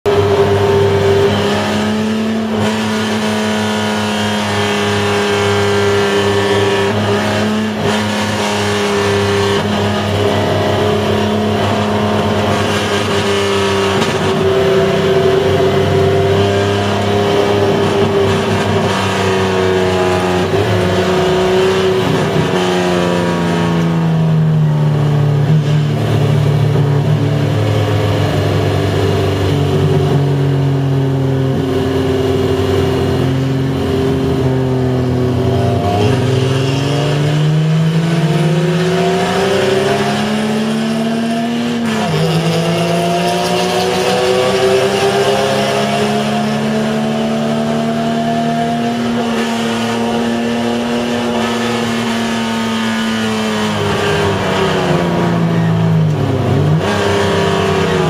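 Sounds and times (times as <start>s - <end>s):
race car engine from inside cabin: 0.0s - 58.0s.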